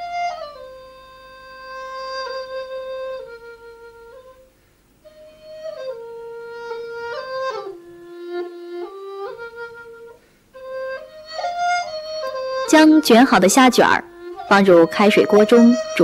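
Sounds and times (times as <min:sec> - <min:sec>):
flute playing slow melody: 0:00.0 - 0:16.0.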